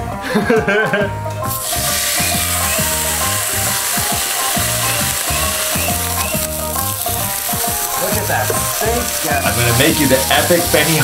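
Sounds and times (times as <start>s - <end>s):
background music with beat: 0.0s - 11.0s
steak sizzling on a griddle: 1.4s - 11.0s.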